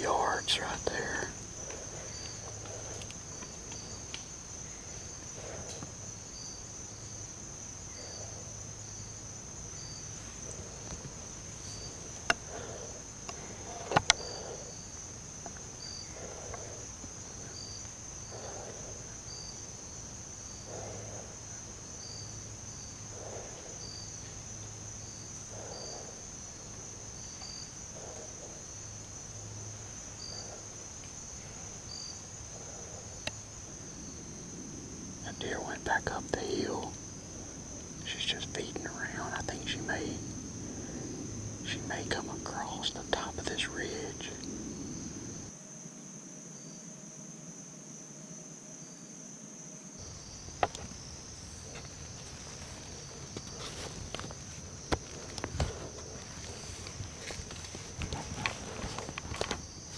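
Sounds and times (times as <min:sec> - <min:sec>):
insects chirping chorus: 0:00.0 - 0:59.9
pulsing insect call: 0:00.0 - 0:59.9.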